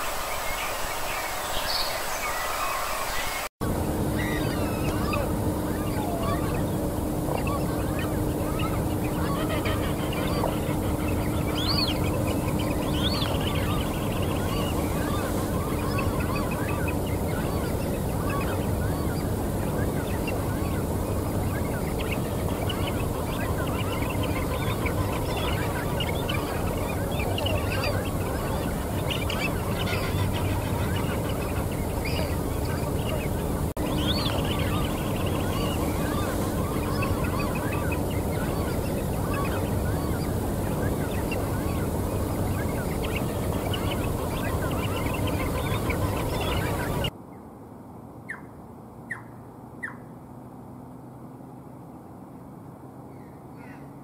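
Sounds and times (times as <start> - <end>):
birds chirping: 0.0 - 47.1
steady rushing noise: 0.0 - 47.1
low background noise: 0.0 - 54.0.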